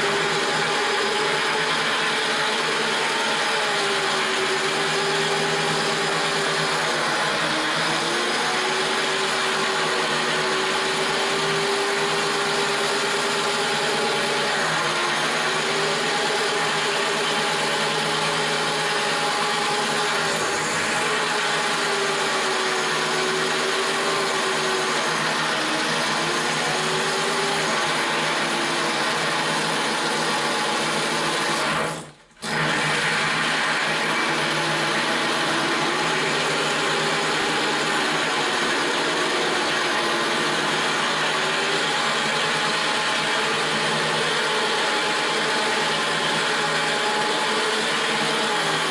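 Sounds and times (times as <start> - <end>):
drill grinding into tile: 0.0 - 48.9.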